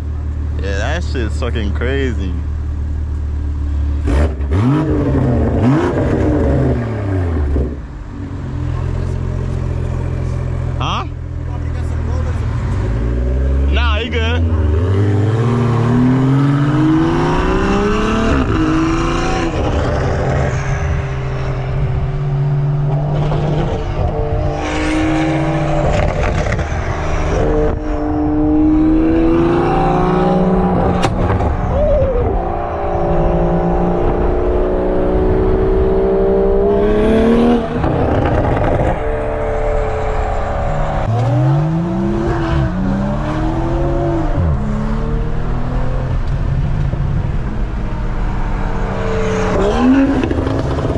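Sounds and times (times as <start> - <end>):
car engine accelerating hard: 3.7 - 50.9.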